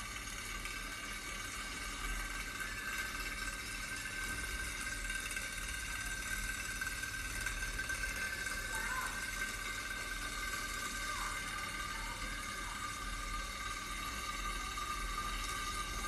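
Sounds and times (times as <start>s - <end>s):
small engine whirring and whining: 0.0s - 16.0s.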